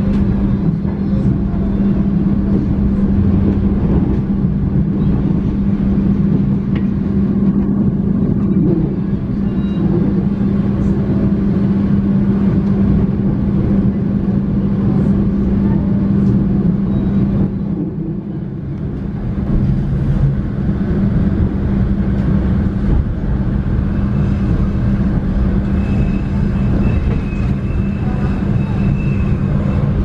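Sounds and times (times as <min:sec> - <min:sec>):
constant low hum: 0:00.0 - 0:30.0
train wheels rumbling on track: 0:00.0 - 0:30.0.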